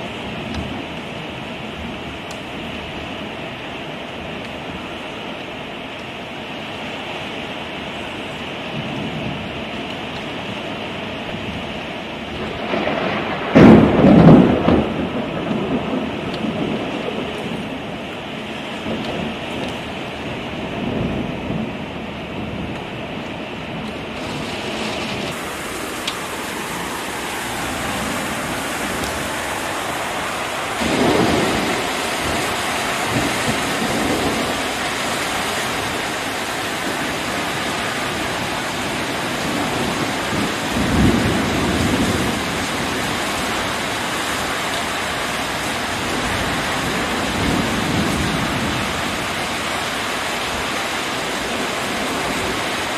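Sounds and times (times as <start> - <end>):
heavy rain pouring: 0.0 - 52.9
thunder rumbling: 8.7 - 52.9.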